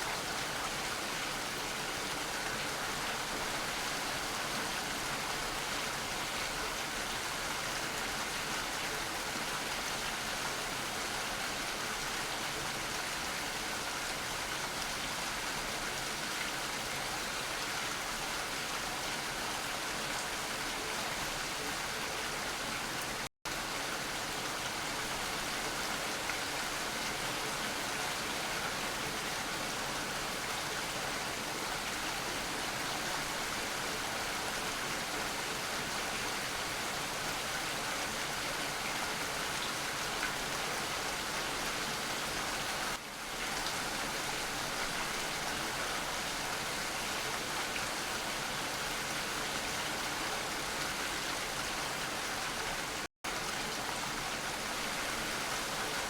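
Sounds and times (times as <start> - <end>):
steady rainfall on surfaces: 0.0 - 56.0.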